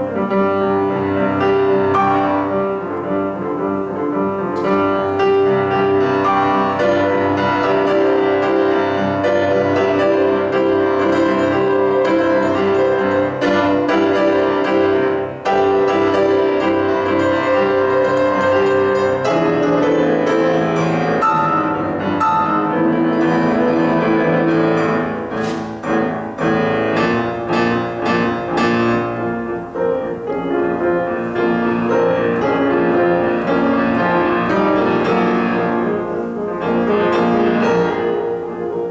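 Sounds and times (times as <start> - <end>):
solo piano playing chords: 0.0 - 38.9.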